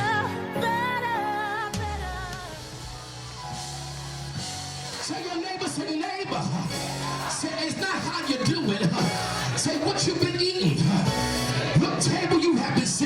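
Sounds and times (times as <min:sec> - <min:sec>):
band with bass line: 0:01.7 - 0:05.8, 0:06.4 - 0:13.0.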